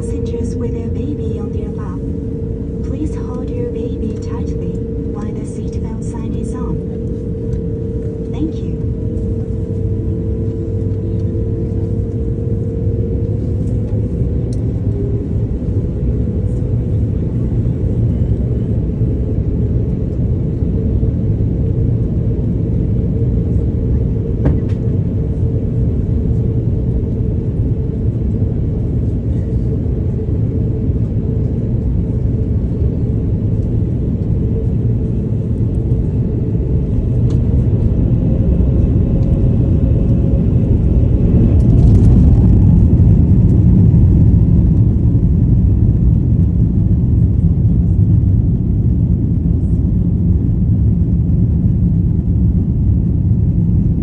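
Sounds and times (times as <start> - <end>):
jet engine rumble in cabin: 0.0 - 54.0.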